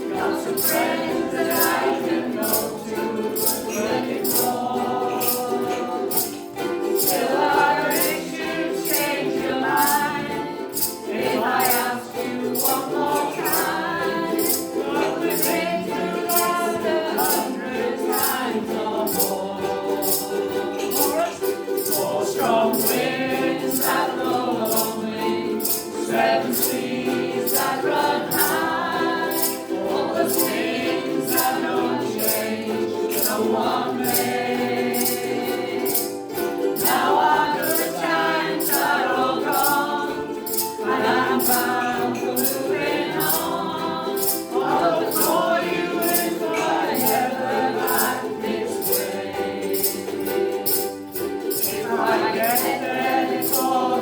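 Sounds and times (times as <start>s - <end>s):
group singing in unison: 0.0s - 54.0s
rhythmic shaker beat: 0.0s - 54.0s
strummed ukuleles: 0.0s - 54.0s.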